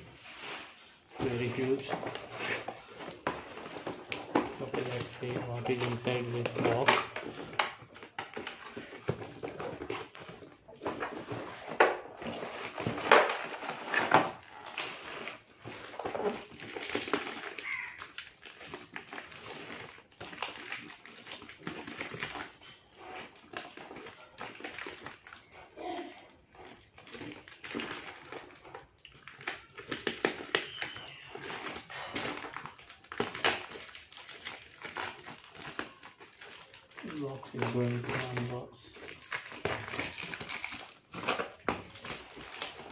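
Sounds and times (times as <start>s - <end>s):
tape and plastic wrap tearing: 0.0s - 42.9s
scissors cutting plastic wrap: 1.2s - 42.9s.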